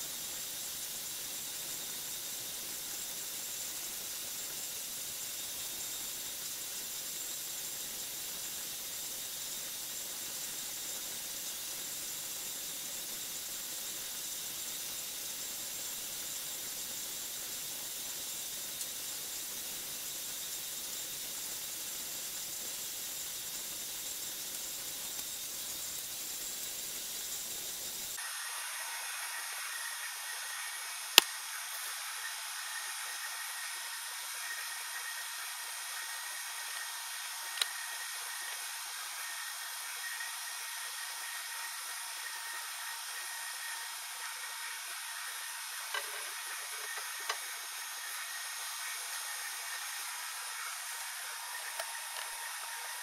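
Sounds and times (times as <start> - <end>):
vacuum pump hissing: 0.0 - 29.9, 30.6 - 53.0.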